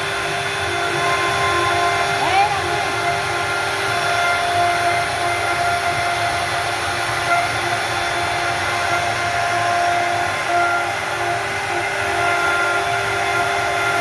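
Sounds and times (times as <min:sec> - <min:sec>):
wood router spindle whine: 0:00.0 - 0:14.0.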